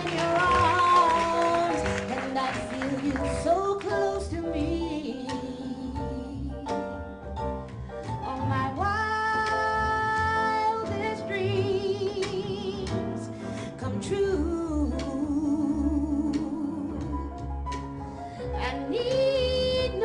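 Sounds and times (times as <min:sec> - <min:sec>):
woman singing: 0:00.0 - 0:07.0, 0:08.2 - 0:17.4, 0:18.5 - 0:20.0
double bass: 0:00.0 - 0:20.0
piano: 0:00.0 - 0:20.0.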